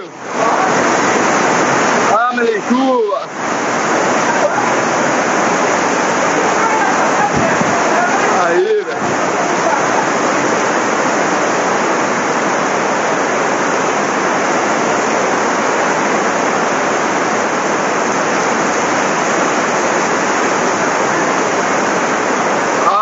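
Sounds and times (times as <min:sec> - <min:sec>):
floodwater rushing: 0:00.0 - 0:23.0
heavy rain pouring: 0:00.0 - 0:23.0.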